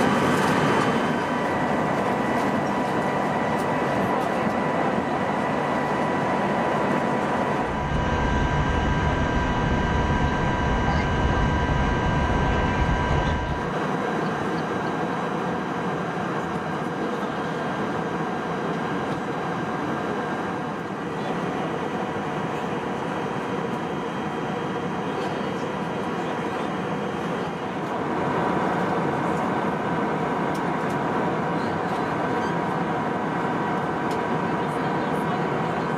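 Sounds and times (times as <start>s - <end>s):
airplane cabin noise: 0.0s - 35.9s.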